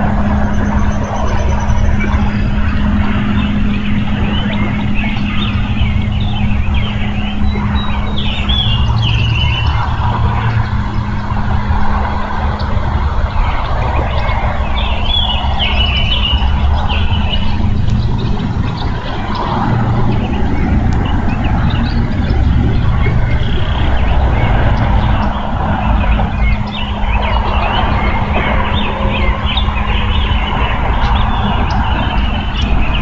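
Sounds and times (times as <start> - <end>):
low rumble: 0.0 - 33.0
microphone hum: 0.0 - 33.0
songbirds chirping: 0.0 - 33.0.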